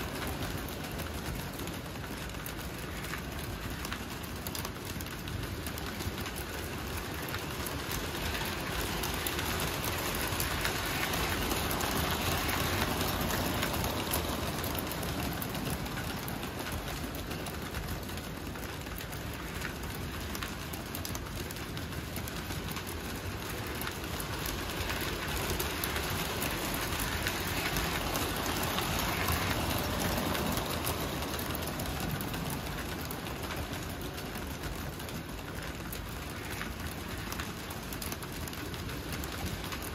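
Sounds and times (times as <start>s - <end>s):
toy train rattling on track: 0.0s - 39.9s.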